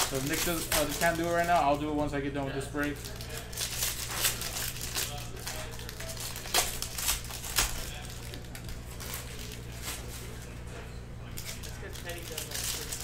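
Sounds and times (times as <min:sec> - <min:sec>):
foil wrapper crinkling: 0:00.0 - 0:01.9, 0:02.7 - 0:10.6, 0:11.2 - 0:13.0.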